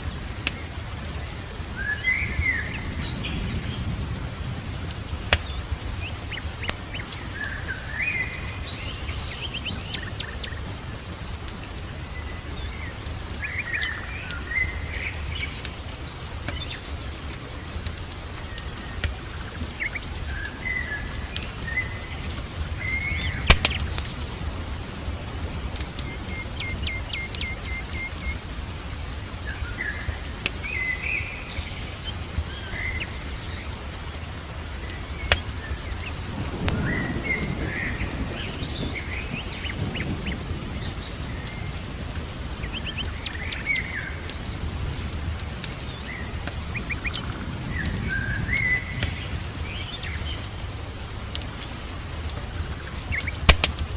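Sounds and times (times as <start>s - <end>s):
fire popping: 0.0s - 53.9s
rain hissing: 0.0s - 53.9s
songbirds chirping and trilling: 0.0s - 53.9s
wood fire crackling: 0.0s - 53.9s.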